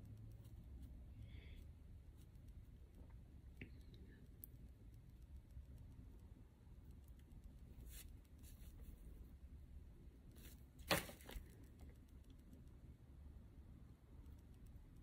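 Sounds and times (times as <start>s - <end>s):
soft rustling of materials: 0.0s - 13.0s.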